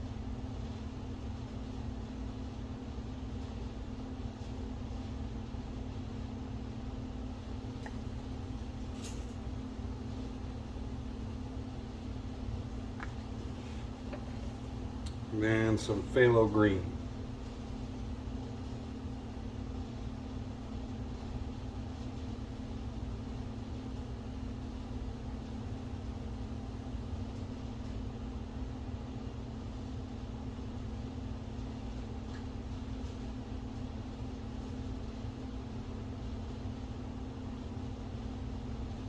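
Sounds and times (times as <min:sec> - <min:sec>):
air conditioning hum and hiss: 0:00.0 - 0:39.0.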